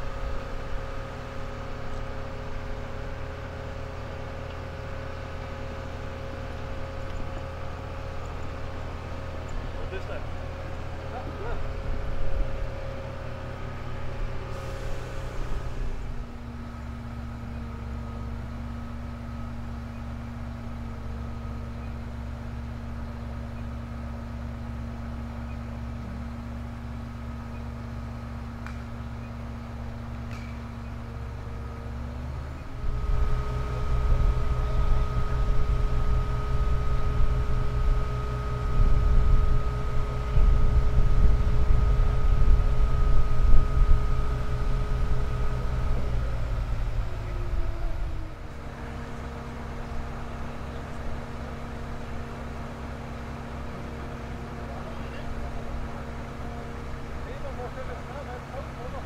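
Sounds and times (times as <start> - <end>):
heavy vehicle engine running: 0.0 - 59.0
held whine: 0.0 - 59.0.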